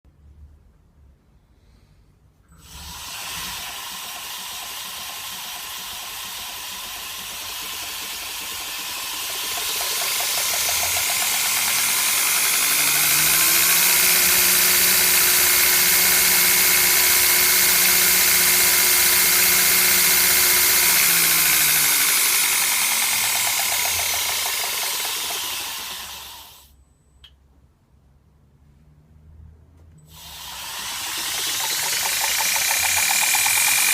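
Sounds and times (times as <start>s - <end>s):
belt grinder whining: 2.6s - 26.7s, 30.1s - 33.9s.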